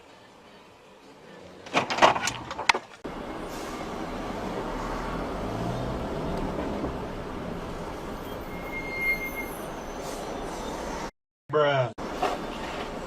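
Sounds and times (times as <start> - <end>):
vehicle and road noise: 0.0 - 11.1, 12.0 - 13.0.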